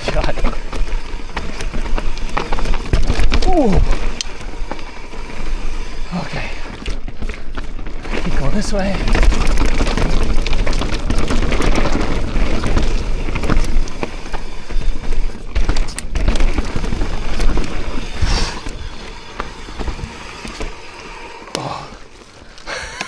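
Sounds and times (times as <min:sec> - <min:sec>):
bike clattering and rattling: 0:00.0 - 0:23.0
tyre noise on dirt: 0:00.0 - 0:23.0.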